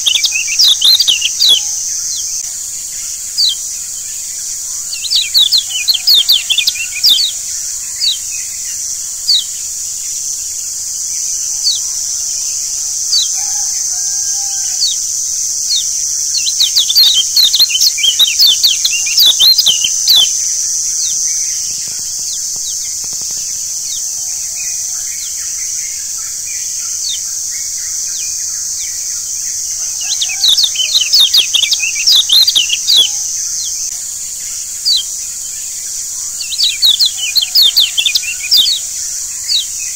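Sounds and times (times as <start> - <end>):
bird twittering: 0.0 - 2.4, 3.2 - 10.1, 11.4 - 33.9, 34.8 - 35.2, 36.4 - 39.9
steady high hiss: 0.0 - 39.9.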